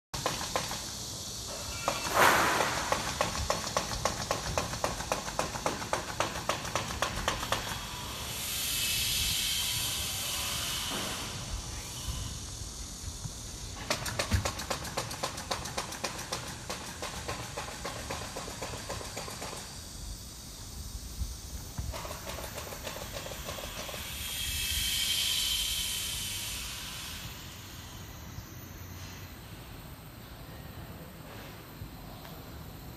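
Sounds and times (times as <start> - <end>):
high hiss of air release: 0.2 - 30.6.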